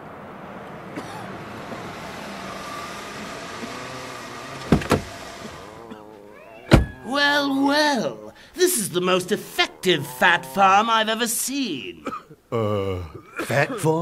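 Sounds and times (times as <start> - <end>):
jeep engine and road noise: 0.0 - 14.0.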